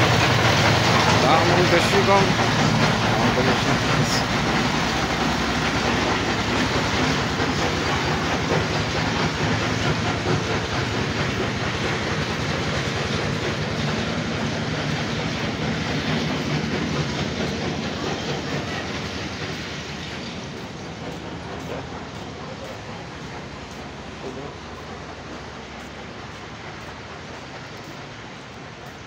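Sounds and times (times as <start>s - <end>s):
road noise: 0.0s - 29.0s.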